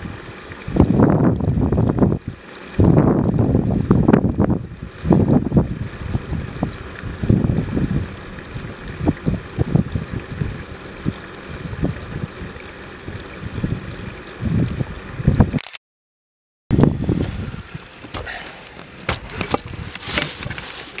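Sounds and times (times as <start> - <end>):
wind buffeting microphone: 0.0 - 15.6, 16.7 - 20.8.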